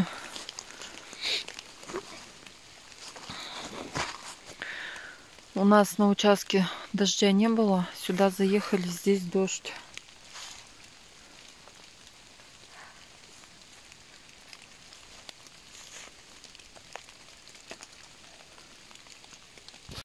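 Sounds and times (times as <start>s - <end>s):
light rain hissing: 0.0s - 20.0s
raindrops ticking: 0.0s - 20.0s.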